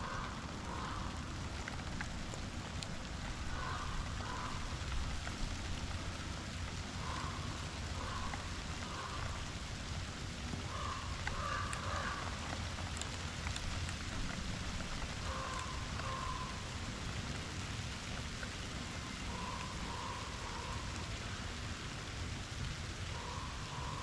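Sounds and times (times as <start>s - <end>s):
raindrop ticks: 0.0s - 24.0s
steady rain falling: 0.0s - 24.0s.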